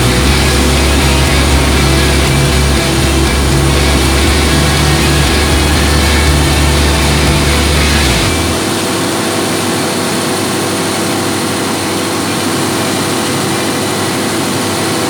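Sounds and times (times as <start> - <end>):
diesel generator roaring: 0.0 - 15.0.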